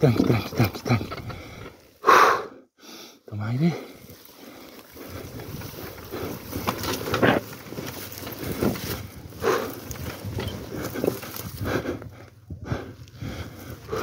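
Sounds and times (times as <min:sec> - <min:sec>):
person breathing heavily: 0:01.2 - 0:14.0.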